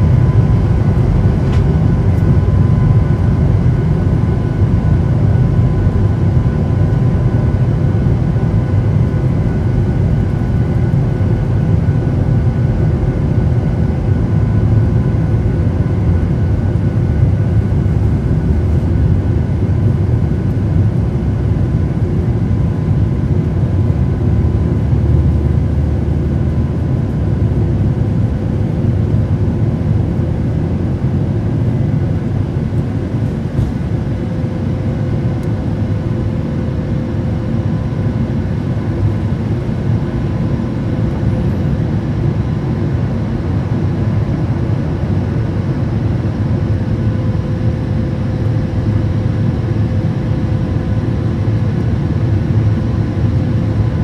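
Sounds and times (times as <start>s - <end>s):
airflow and jet engine rush: 0.0s - 54.0s.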